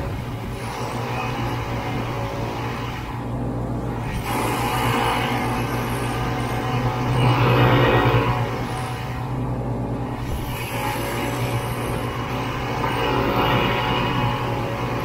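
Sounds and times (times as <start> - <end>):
rushing noise: 0.0 - 15.0.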